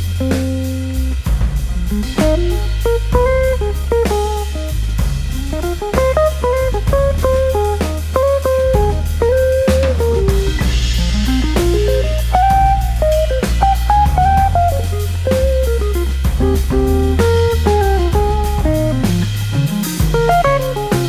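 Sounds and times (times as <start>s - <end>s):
bass guitar: 0.0s - 21.0s
drum kit: 0.0s - 21.0s
guitar melody: 0.0s - 21.0s.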